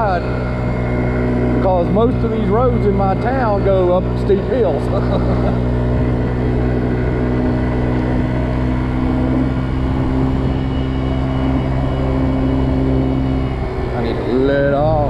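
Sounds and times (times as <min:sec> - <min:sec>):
scooter engine running at high speed: 0:00.0 - 0:15.0
wind rushing over microphone: 0:00.0 - 0:15.0.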